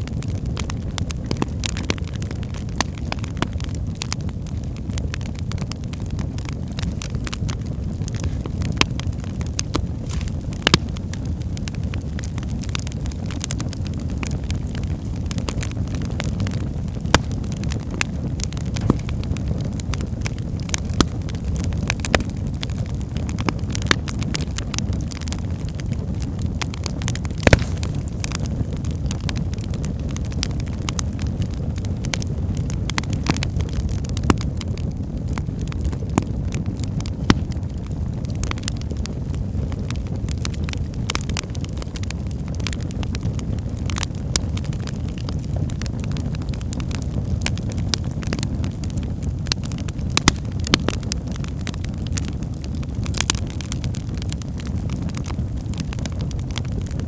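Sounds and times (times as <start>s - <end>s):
logs crackling and popping: 0.0s - 57.0s
low rumble of fire flames: 0.0s - 57.0s.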